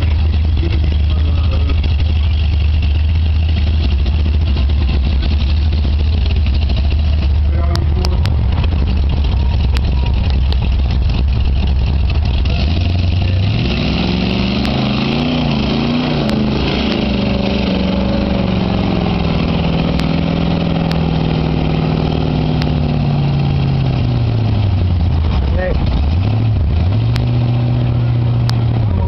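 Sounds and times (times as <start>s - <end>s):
truck engine rumbling and revving: 0.0s - 29.0s.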